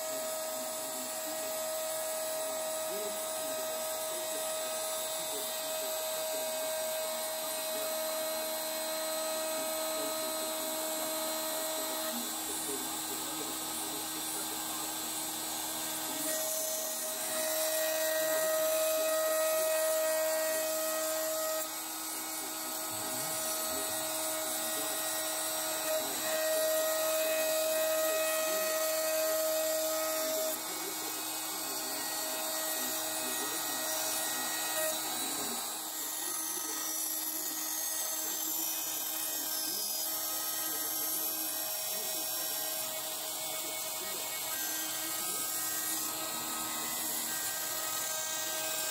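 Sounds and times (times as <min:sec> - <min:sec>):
bit cutting wood: 0:00.0 - 0:48.9
router spindle running: 0:00.0 - 0:48.9.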